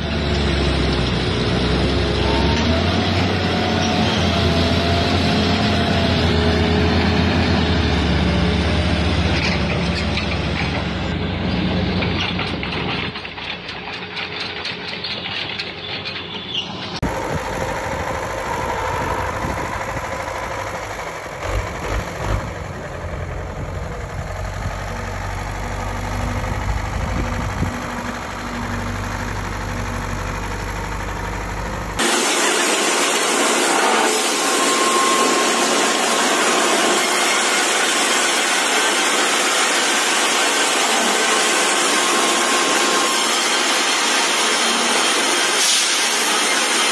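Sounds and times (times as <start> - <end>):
bulldozer engine running: 0.0 - 46.9
sawmill machinery whining: 0.0 - 46.9
tractor engine running: 0.0 - 46.9
truck engine running: 0.0 - 46.9.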